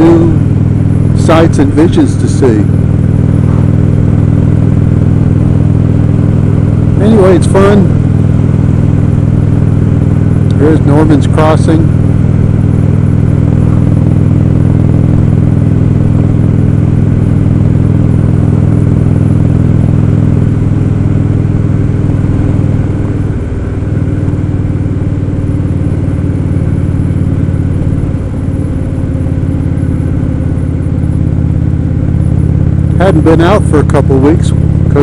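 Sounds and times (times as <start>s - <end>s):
motorcycle engine running steadily: 0.0s - 35.0s.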